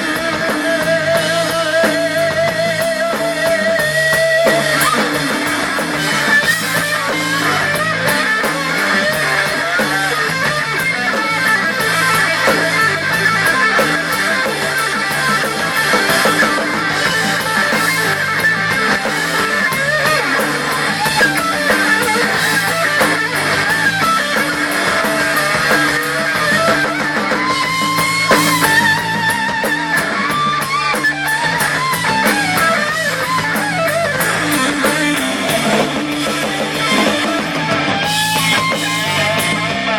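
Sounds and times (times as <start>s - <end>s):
electric guitar solo: 0.0s - 39.9s
rock band backing: 0.0s - 39.9s.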